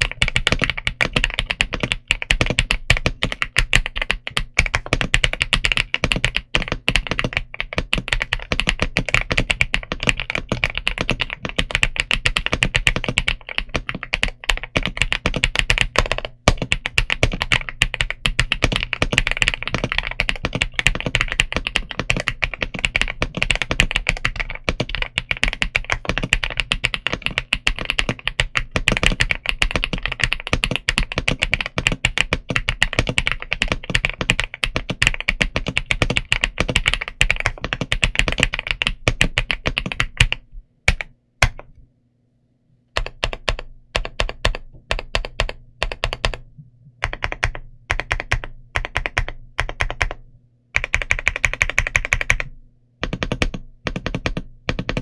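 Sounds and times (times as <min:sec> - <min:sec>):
mechanical keyboard typing: 0:00.0 - 0:41.7, 0:43.0 - 0:50.2, 0:50.8 - 0:55.0.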